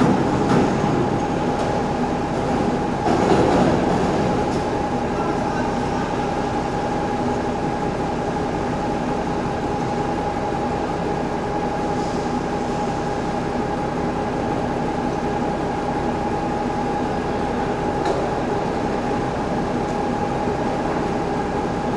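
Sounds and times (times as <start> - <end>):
factory machinery drone: 0.0 - 21.9.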